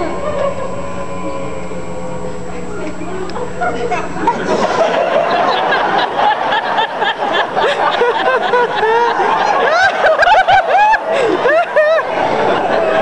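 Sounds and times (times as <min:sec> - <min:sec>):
audience laughing: 0:00.0 - 0:01.3, 0:03.4 - 0:13.0.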